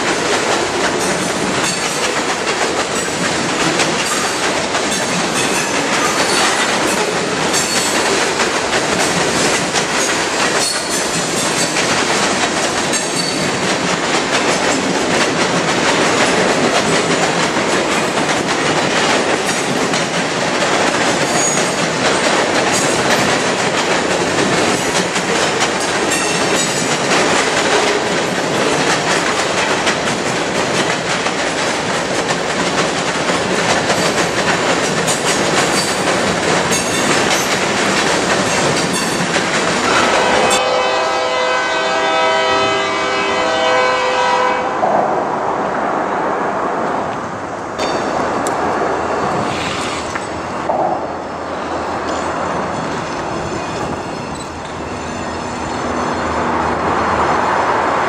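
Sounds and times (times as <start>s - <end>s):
train wheels rumbling and clicking: 0.0s - 43.2s, 46.8s - 58.0s.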